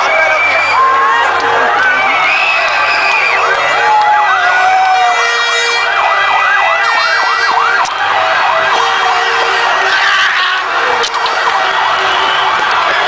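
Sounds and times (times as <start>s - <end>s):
crowd celebrating: 0.0s - 13.0s
yelping siren wail: 0.0s - 13.0s.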